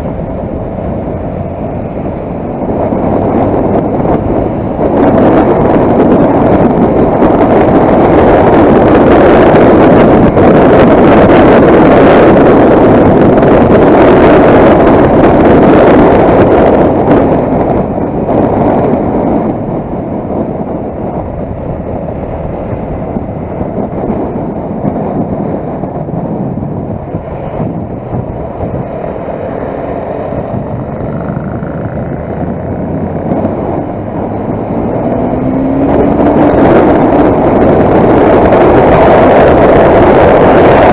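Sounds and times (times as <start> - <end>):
motorcycle engine: 0.0 - 40.9
rushing wind: 0.0 - 40.9.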